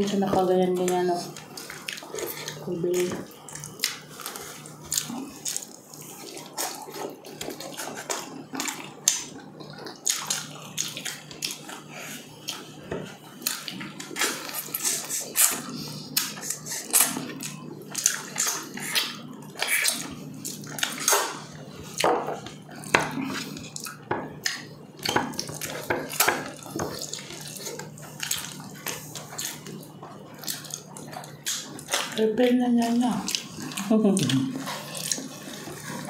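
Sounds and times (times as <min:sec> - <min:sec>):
wet chewing and lip-smacking: 0:00.8 - 0:36.0.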